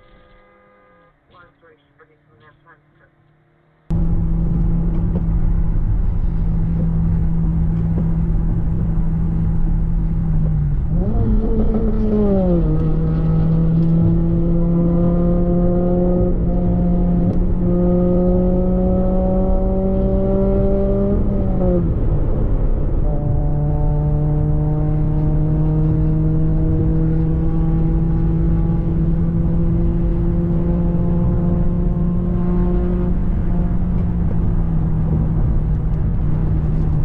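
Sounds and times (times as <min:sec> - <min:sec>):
low road noise: 0:00.0 - 0:37.0
vehicle engine running: 0:00.0 - 0:37.0.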